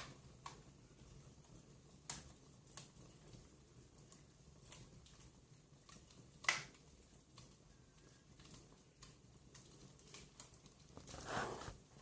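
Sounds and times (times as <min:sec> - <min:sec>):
fire pops: 0:00.0 - 0:12.0
wood fire crackling: 0:00.0 - 0:12.0.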